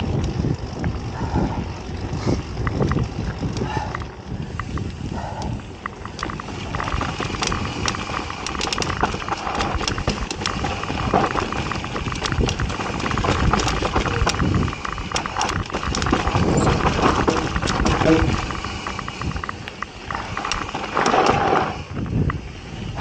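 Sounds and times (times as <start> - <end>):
bike rattling over bumps: 0.0 - 23.0
tyres rumbling over dirt: 0.0 - 23.0.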